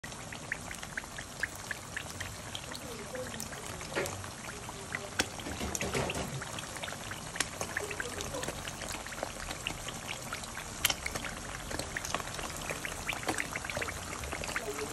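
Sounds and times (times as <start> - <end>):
eggs sizzling in hot oil: 0.0 - 14.9.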